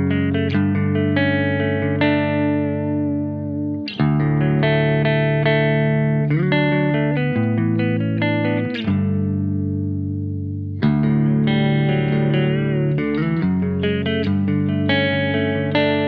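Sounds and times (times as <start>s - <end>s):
clean electric guitar chords: 0.0s - 16.0s.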